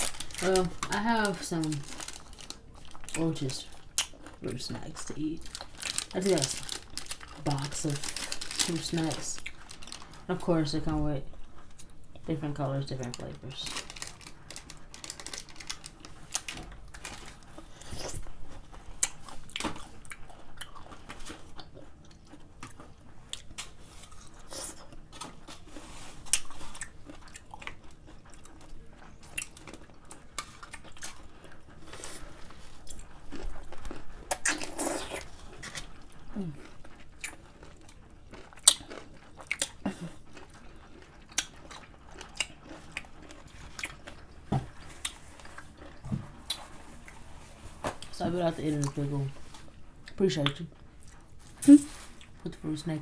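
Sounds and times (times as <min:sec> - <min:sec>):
pickles being chewed: 0:00.0 - 0:52.7.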